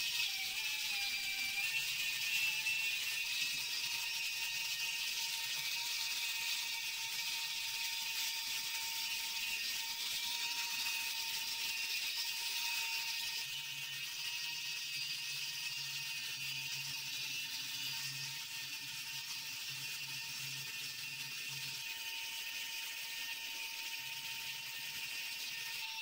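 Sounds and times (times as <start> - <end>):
small motor tool whirring: 0.0 - 26.0.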